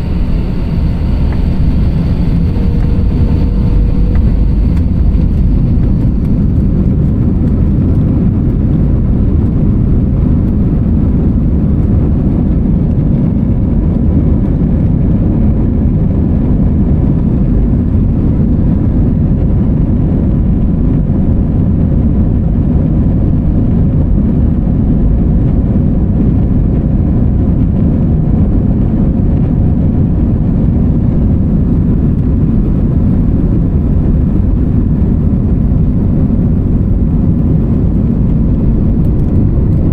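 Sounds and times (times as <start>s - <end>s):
faint steady hum: 0.0s - 39.9s
jet engine and airflow noise: 0.0s - 39.9s.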